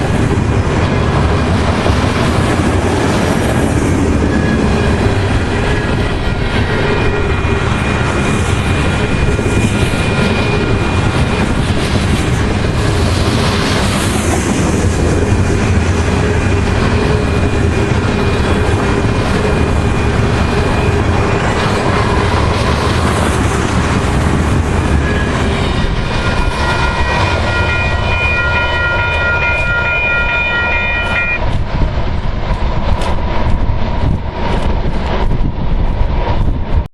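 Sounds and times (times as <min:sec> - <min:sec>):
freight train rumbling past: 0:00.0 - 0:36.9
wind buffeting microphone: 0:00.0 - 0:36.9.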